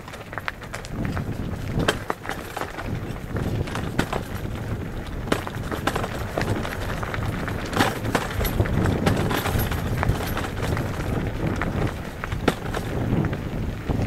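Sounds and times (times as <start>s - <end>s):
bike rattling over rocks: 0.0s - 14.0s
bike tyres rumbling on stones: 0.0s - 14.0s.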